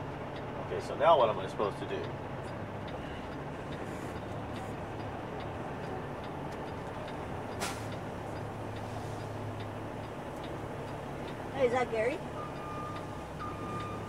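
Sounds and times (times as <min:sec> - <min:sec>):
diesel truck engine running: 0:00.0 - 0:14.0
light regular ticking: 0:00.0 - 0:14.0.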